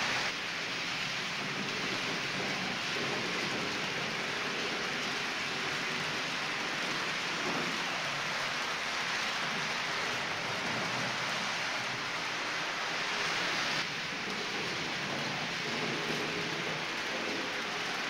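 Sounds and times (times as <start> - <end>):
model train wheels rolling on rails: 0.0 - 18.0.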